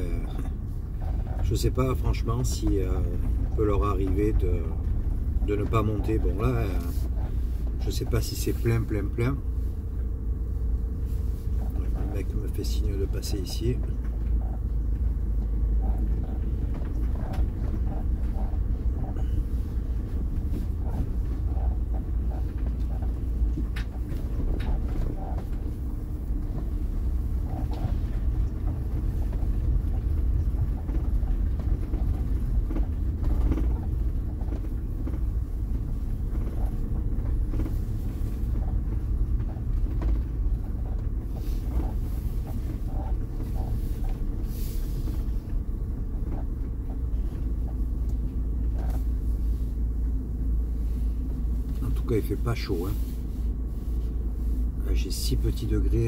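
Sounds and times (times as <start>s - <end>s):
van engine and road rumble: 0.0s - 56.0s.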